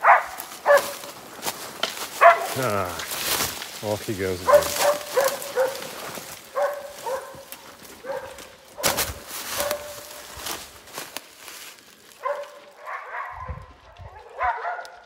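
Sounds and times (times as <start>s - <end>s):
dogs barking: 0.0s - 3.0s, 4.2s - 10.6s, 12.1s - 15.0s
footsteps and brush rustling: 0.0s - 15.0s.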